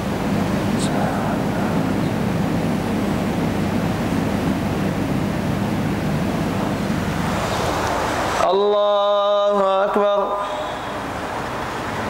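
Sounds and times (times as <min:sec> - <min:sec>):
electric fans rushing: 0:00.0 - 0:12.0
low hum: 0:00.0 - 0:12.0.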